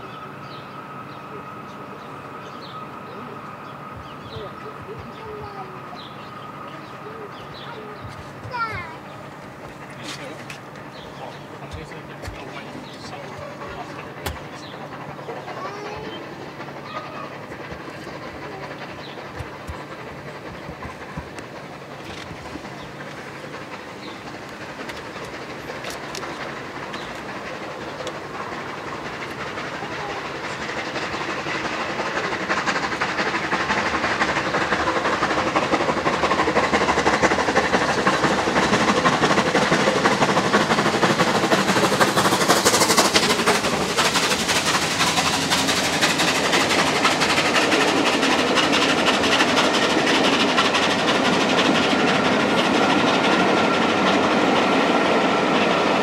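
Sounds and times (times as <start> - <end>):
rolling train: 0.0 - 56.0
steam locomotive working hard: 0.0 - 56.0.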